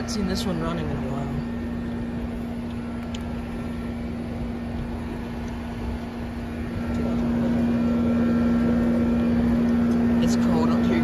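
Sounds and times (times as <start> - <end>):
electrical hum: 0.0 - 11.0
fan and air noise: 0.0 - 11.0.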